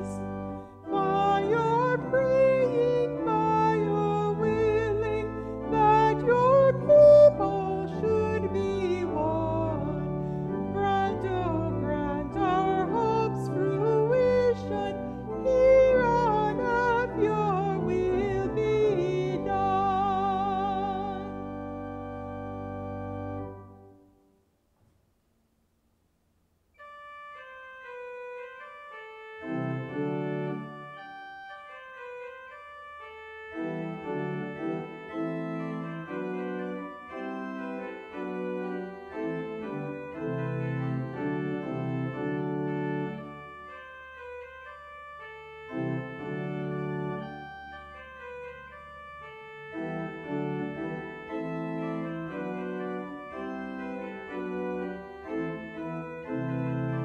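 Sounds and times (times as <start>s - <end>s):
church organ playing: 0.0s - 24.3s, 26.8s - 57.0s.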